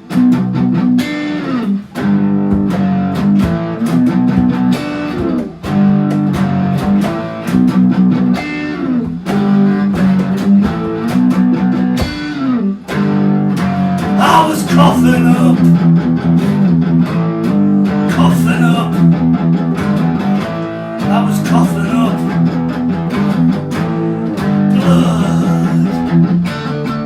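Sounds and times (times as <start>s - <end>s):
strummed guitar chords: 0.0s - 27.0s.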